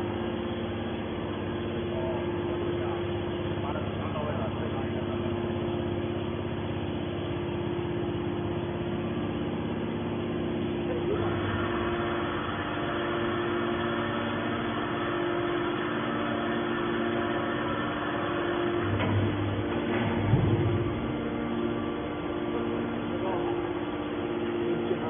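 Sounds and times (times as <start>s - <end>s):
hydraulic power unit droning: 0.0s - 25.0s.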